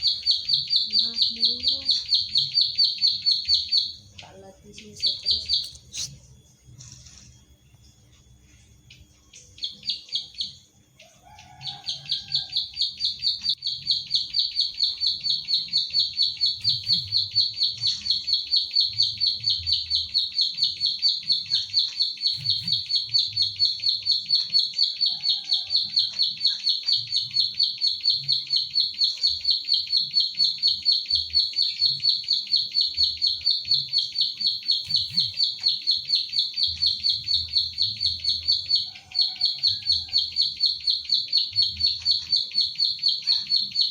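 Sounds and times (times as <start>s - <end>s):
bird singing rapid klik notes: 0.0s - 7.4s, 8.1s - 43.9s.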